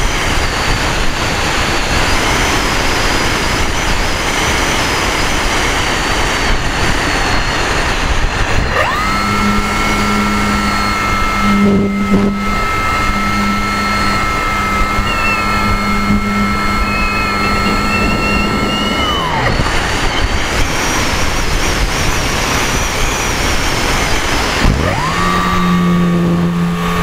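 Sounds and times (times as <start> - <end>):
model plane motor whining: 0.0 - 27.0.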